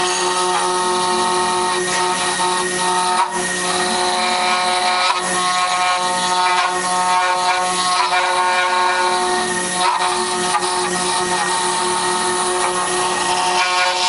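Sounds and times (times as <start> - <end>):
grinding hiss of milling cut: 0.0 - 14.0
router spindle whine: 0.0 - 14.0.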